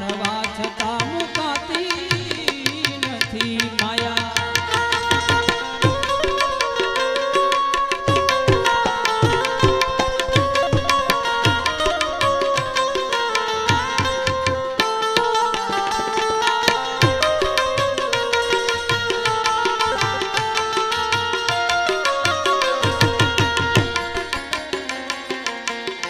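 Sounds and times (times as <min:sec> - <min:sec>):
harmonium melody: 0:00.0 - 0:26.0
tabla fast rhythm: 0:00.0 - 0:26.0.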